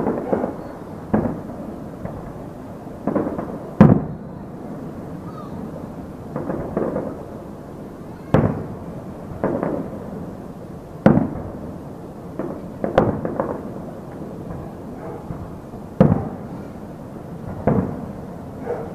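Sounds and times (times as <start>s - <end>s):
fireworks popping: 0.0s - 18.8s
loud firework bangs echoing: 0.0s - 18.9s.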